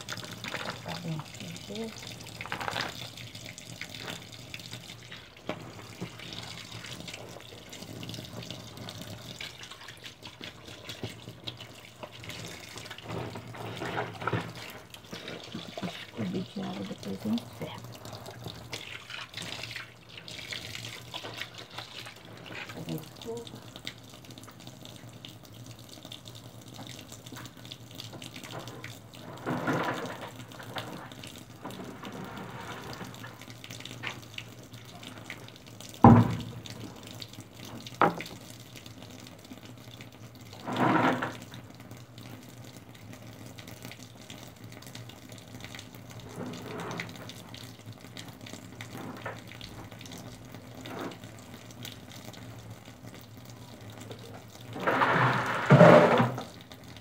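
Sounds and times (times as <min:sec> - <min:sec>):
water running in a sink: 0:00.0 - 0:57.0.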